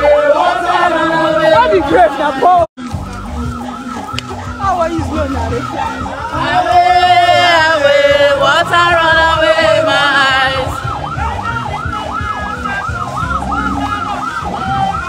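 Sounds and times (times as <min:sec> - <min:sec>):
vehicle siren wailing: 0:00.0 - 0:15.0.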